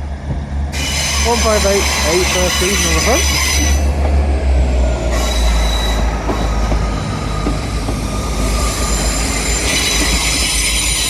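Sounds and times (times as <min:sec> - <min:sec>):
deep train rumble: 0:00.0 - 0:11.0
train wheels squealing: 0:00.7 - 0:04.0, 0:05.0 - 0:11.0.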